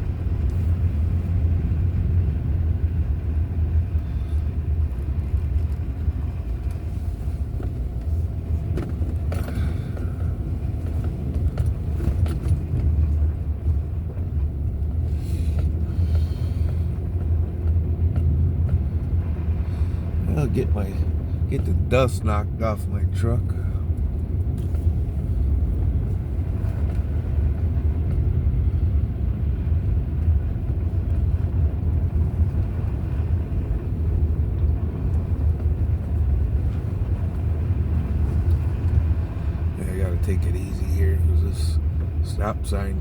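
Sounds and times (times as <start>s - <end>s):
engine and road rumble: 0.0s - 43.0s.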